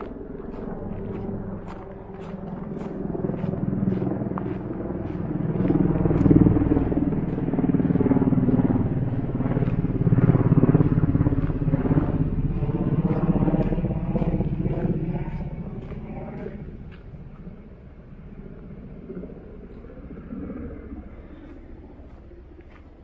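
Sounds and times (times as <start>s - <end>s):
motor engine running: 0.0s - 23.0s
walking footsteps: 0.0s - 23.0s.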